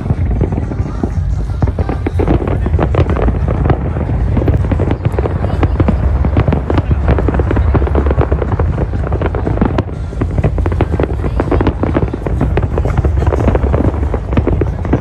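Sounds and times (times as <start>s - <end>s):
fireworks cracking and popping: 0.0s - 15.0s
low rumble: 0.0s - 15.0s.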